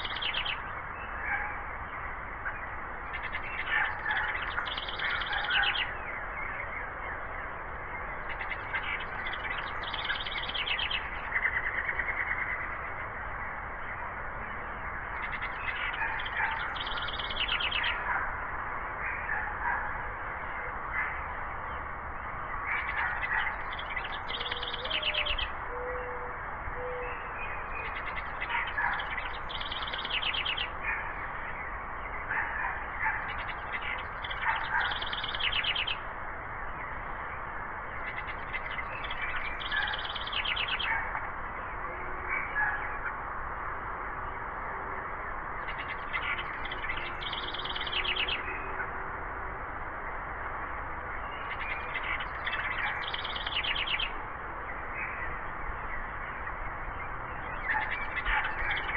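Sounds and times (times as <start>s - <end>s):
songbird singing with trill: 0.0s - 18.2s, 19.1s - 43.2s, 45.6s - 48.9s, 51.1s - 58.9s.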